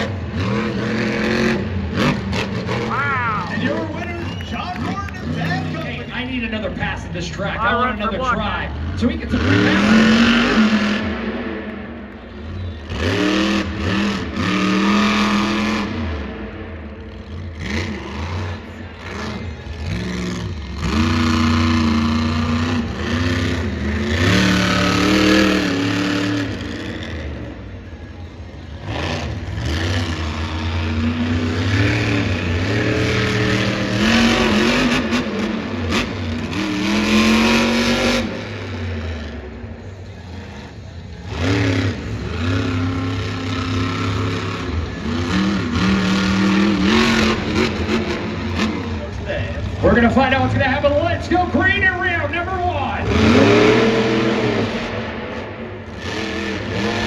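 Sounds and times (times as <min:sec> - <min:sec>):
monster truck engines revving: 0:00.0 - 0:57.0.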